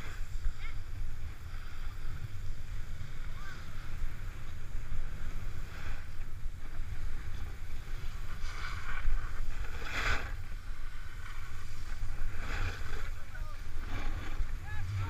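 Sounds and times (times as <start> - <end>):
snowboard scraping snow: 0.0 - 15.0
wind rumble on microphone: 0.0 - 15.0.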